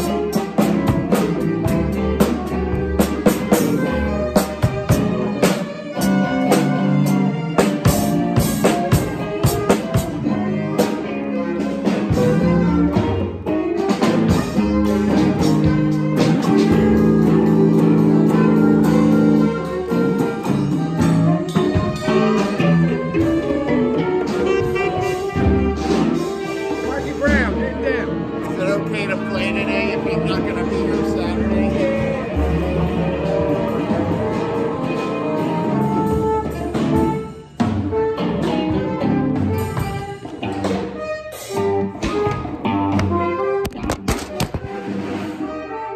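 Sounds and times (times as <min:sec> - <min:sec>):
hand drum: 0:00.0 - 0:45.5
alto saxophone: 0:00.0 - 0:45.9
electric guitar: 0:00.0 - 0:45.9.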